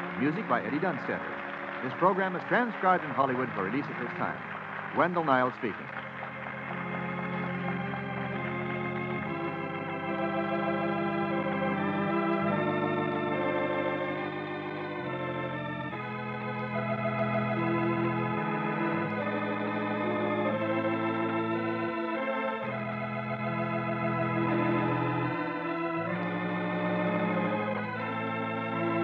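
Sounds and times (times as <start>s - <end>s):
organ playing sustained chords: 0.0s - 29.0s.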